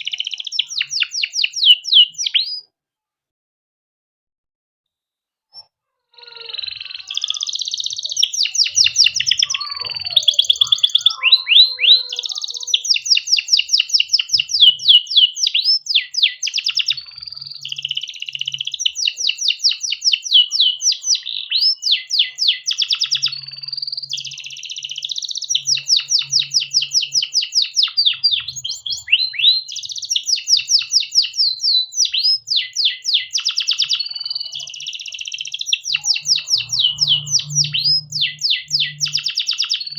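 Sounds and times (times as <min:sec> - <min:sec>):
canary singing trills: 0:00.0 - 0:02.7, 0:05.6 - 0:39.9.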